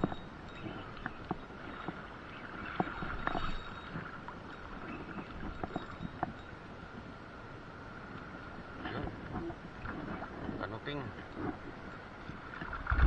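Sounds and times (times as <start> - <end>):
water sloshing against boat hull: 0.0 - 7.2, 7.9 - 13.0.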